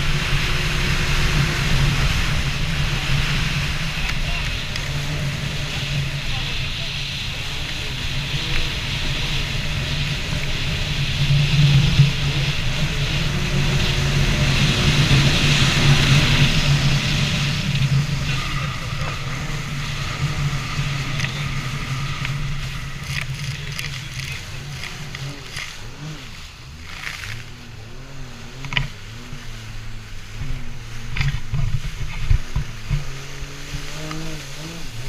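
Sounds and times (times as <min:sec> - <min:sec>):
hiss of wind and water: 0:00.0 - 0:35.0
jet ski engine running: 0:00.0 - 0:35.0.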